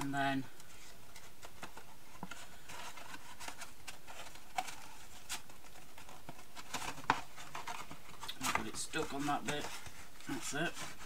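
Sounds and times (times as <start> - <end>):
cardstock rustling: 0.0 - 11.0.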